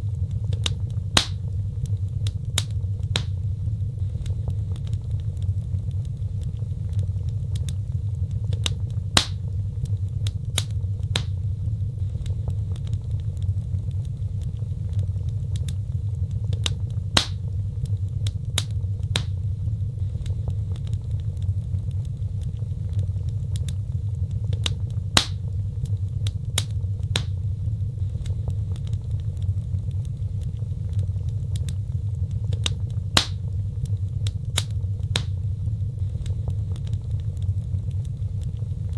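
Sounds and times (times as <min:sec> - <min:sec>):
fire low rumble: 0:00.0 - 0:38.9
wood fire crackling and popping: 0:00.0 - 0:38.9.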